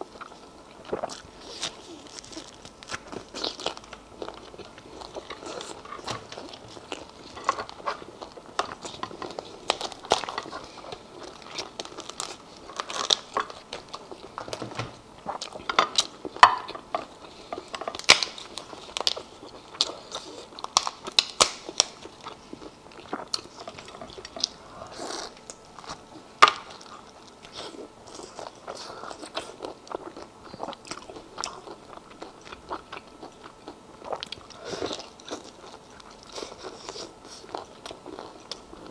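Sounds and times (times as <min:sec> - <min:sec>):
chewing with crunches and clicks: 0:00.0 - 0:38.9.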